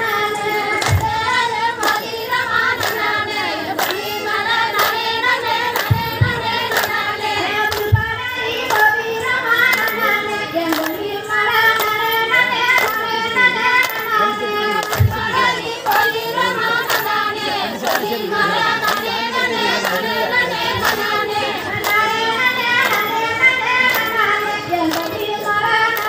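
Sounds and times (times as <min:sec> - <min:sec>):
hands clapping: 0:00.0 - 0:26.0
women singing folk song: 0:00.0 - 0:26.0.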